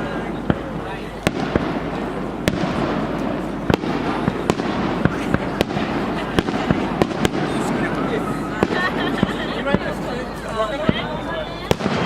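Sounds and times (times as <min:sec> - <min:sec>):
fireworks rumble: 0:00.0 - 0:12.0
fireworks sharp cracks: 0:00.0 - 0:12.0.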